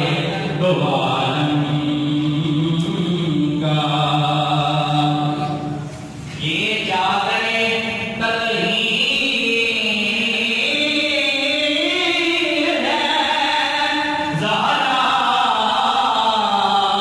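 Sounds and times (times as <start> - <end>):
man singing devotional poem: 0.0 - 17.0.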